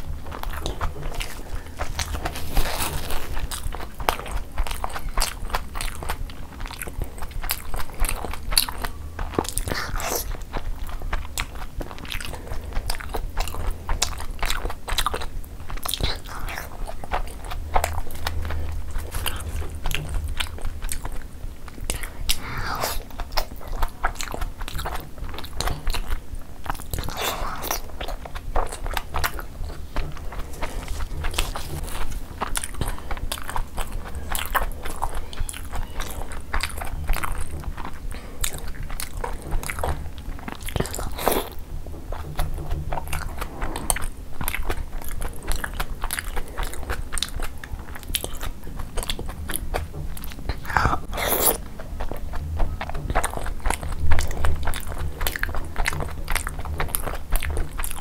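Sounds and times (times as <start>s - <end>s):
low steady hum: 0.0s - 58.0s
mouth smacks and clicks: 0.0s - 58.0s
person chewing wetly: 0.0s - 58.0s.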